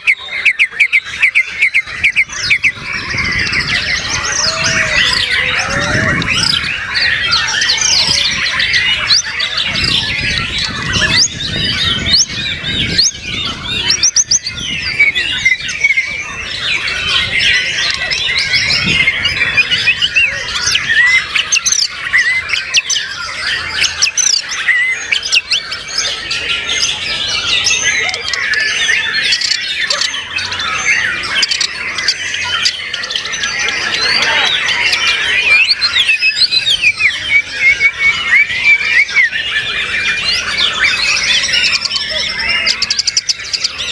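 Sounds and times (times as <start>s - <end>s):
birds singing and whistling: 0.0s - 43.9s.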